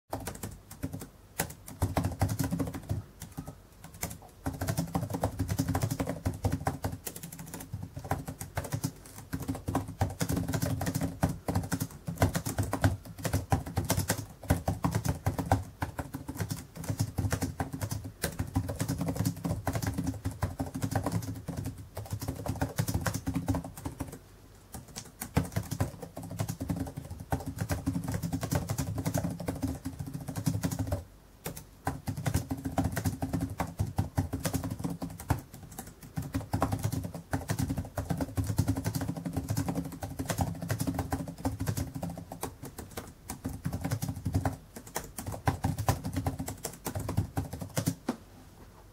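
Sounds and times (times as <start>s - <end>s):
fast typing on laptop keyboard: 0.1s - 48.0s.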